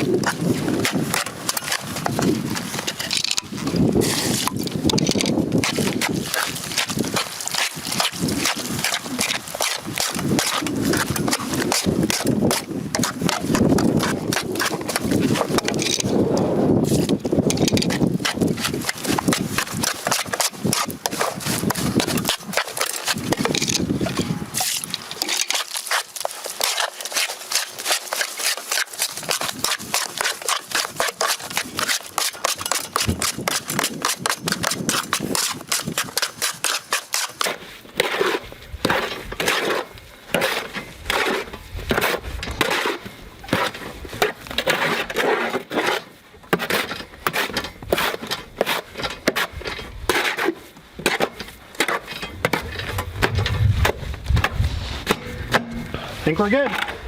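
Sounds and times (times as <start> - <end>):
tool scraping through mortar: 0.0 - 57.0.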